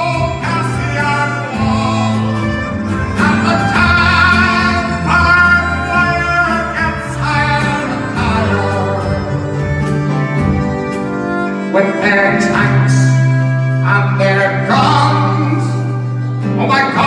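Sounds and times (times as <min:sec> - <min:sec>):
man singing a folk ballad: 0:00.0 - 0:09.6, 0:11.7 - 0:17.0
strummed acoustic guitar: 0:00.0 - 0:17.0.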